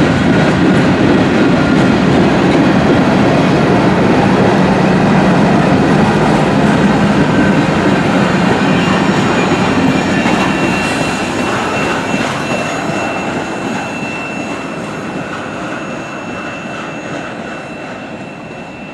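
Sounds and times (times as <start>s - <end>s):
railroad cars rolling on rails: 0.0s - 18.9s
wheels squealing: 3.4s - 18.9s.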